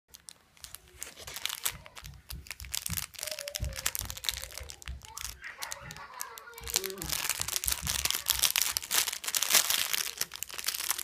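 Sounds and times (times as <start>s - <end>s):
plastic wrapper crinkling: 0.1s - 11.0s.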